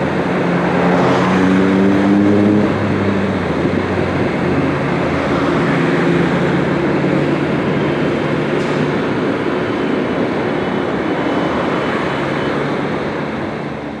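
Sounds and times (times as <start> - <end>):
diesel coach engine running: 0.0 - 14.0.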